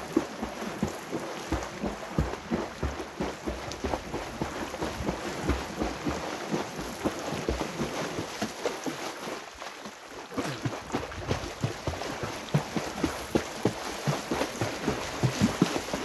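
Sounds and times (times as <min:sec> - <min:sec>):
swimmer splashing: 0:00.0 - 0:16.0.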